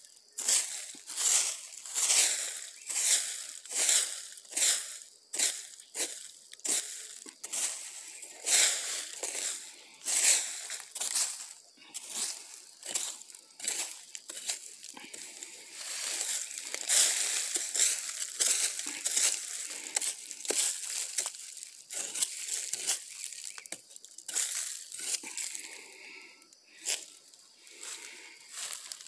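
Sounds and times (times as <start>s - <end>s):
footsteps crunching through dry leaves: 0.0s - 29.0s.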